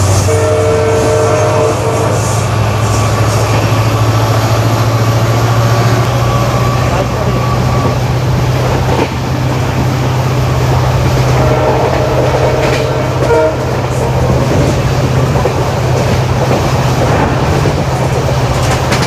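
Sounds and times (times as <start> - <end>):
diesel locomotive engine hum: 0.0 - 19.0
train wheels rumbling on rail: 0.0 - 19.0.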